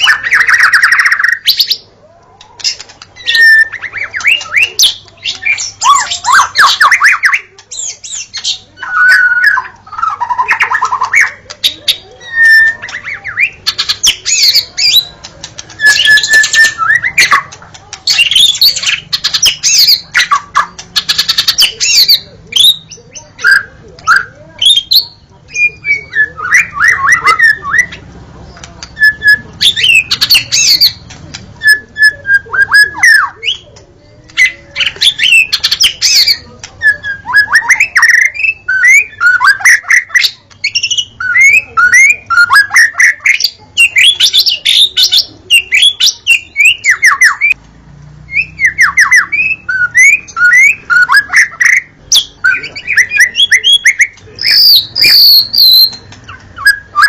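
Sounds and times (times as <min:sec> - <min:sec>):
songbird singing whistled phrases: 0:00.0 - 0:01.9, 0:02.6 - 0:17.5, 0:18.1 - 0:28.0, 0:28.8 - 0:33.7, 0:34.3 - 0:47.6, 0:48.3 - 0:57.0.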